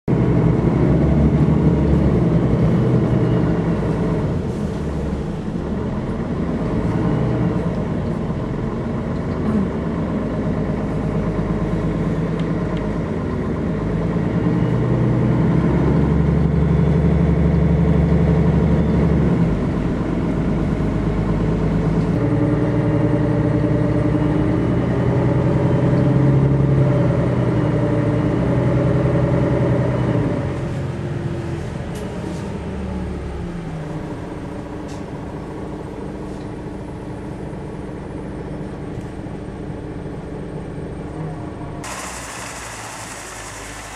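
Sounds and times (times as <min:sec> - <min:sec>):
vehicle engine and road hum: 0:00.1 - 0:43.9.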